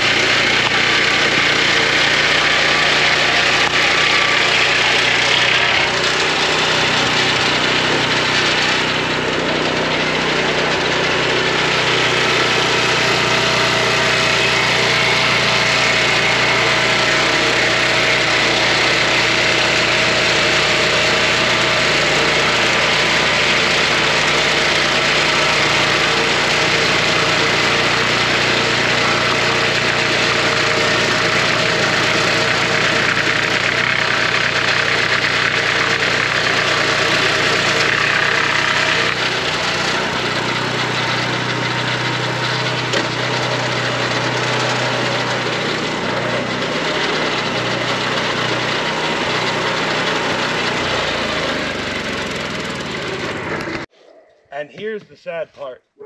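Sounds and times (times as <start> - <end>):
band blade whine: 0.0 - 47.3
sawmill engine drone: 0.0 - 53.9.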